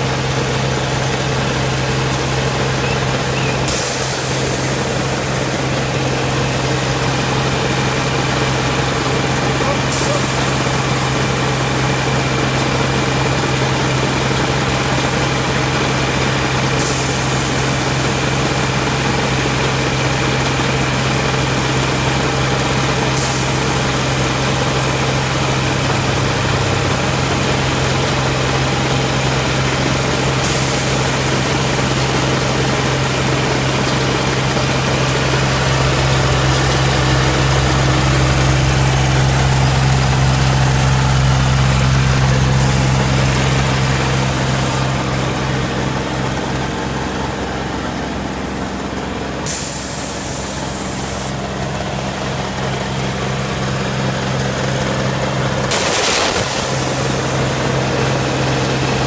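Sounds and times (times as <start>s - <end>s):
truck engine low drone: 0.0s - 59.0s.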